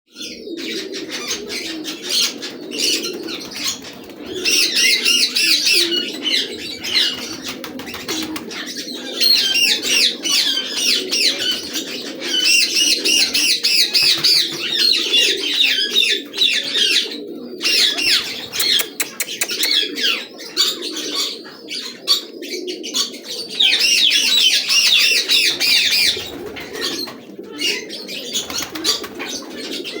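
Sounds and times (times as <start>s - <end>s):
chorus of bird calls: 0.1s - 30.0s
birds warbling chirps: 0.2s - 30.0s.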